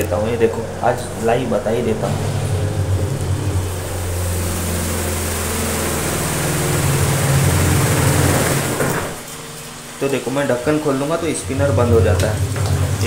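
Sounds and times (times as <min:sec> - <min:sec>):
spin dryer motor hum: 0:00.0 - 0:13.0
tap water running: 0:00.0 - 0:13.0.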